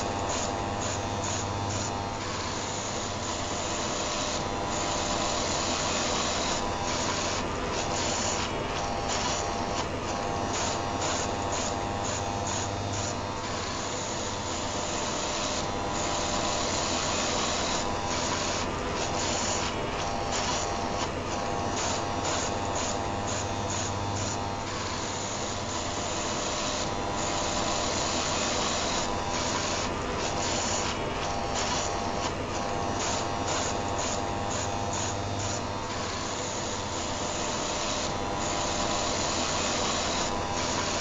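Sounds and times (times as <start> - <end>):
electric shaver buzzing: 0.0 - 41.0.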